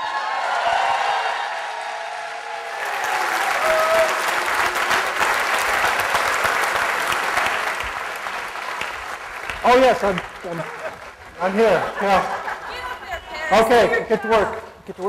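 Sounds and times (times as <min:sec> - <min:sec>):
large audience applauding: 0:00.0 - 0:15.0.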